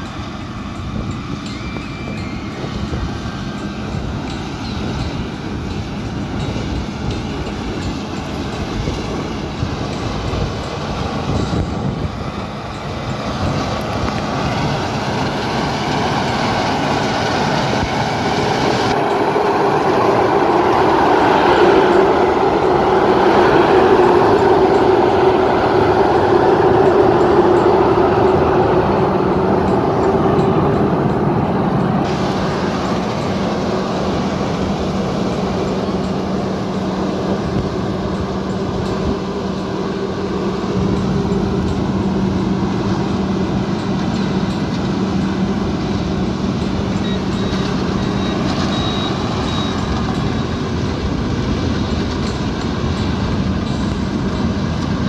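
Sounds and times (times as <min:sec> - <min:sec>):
combine harvester engine hum: 0:00.0 - 0:55.0
machinery clatter: 0:00.0 - 0:55.0.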